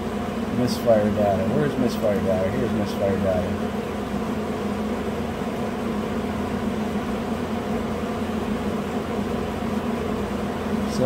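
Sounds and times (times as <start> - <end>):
even hiss: 0.0 - 11.0
steady mechanical hum: 0.0 - 11.0.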